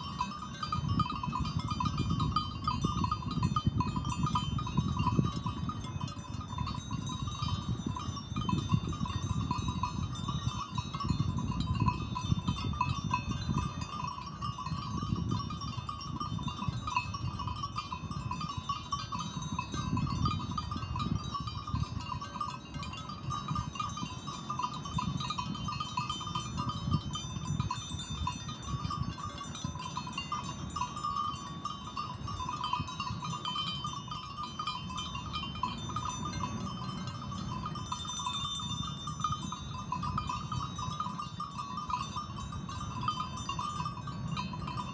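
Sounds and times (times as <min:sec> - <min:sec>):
high thin ringing tones: 0:00.0 - 0:44.9.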